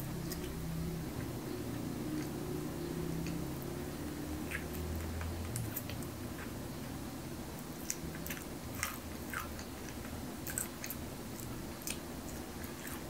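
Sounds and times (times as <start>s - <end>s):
crunchy chewing: 0.0s - 6.6s, 7.5s - 13.0s.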